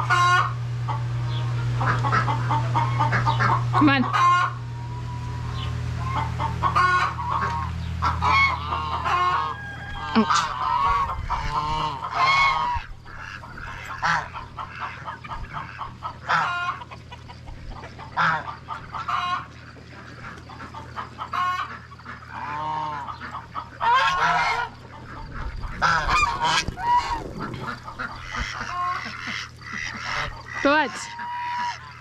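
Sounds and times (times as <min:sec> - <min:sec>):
goose honking: 0:00.0 - 0:32.0
steady low hum: 0:00.0 - 0:32.0.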